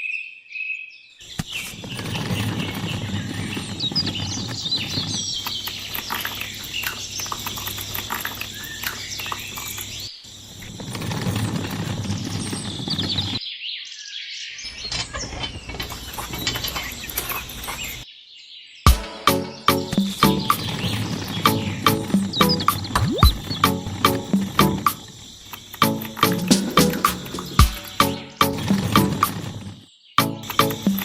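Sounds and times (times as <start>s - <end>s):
small birds chirping: 0.7s - 31.0s.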